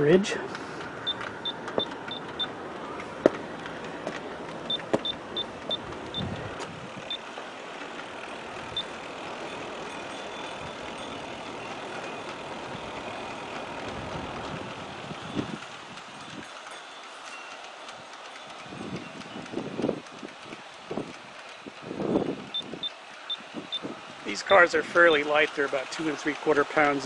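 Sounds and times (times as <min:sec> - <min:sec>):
model train running noise: 0:00.0 - 0:27.0
wheels clicking over rail joints: 0:00.0 - 0:27.0.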